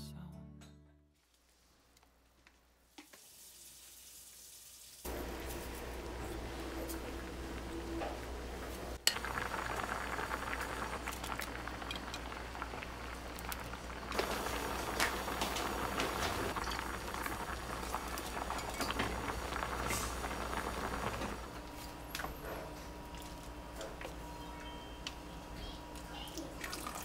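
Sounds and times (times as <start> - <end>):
soup boiling and bubbling: 2.5 - 24.1, 25.9 - 27.0.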